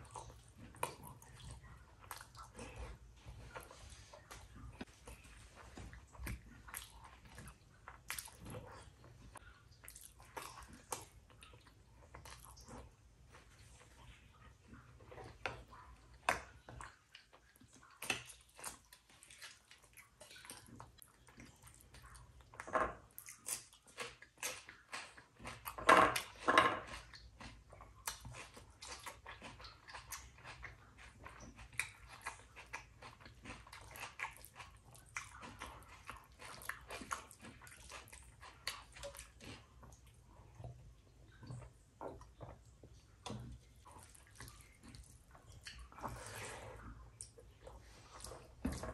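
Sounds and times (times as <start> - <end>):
person chewing and smacking: 0.0 - 48.9.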